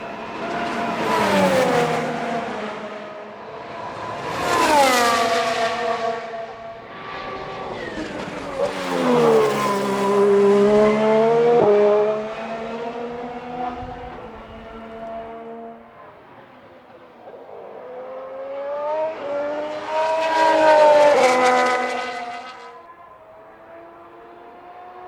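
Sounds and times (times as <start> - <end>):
racing car engines at full throttle: 0.0 - 25.0.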